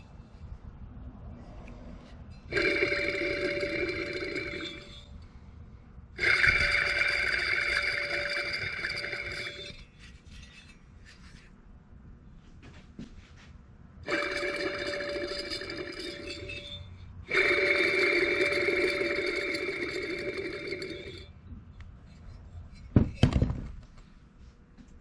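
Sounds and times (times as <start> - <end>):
alternator grinding whine: 2.0 - 11.4, 14.0 - 24.9.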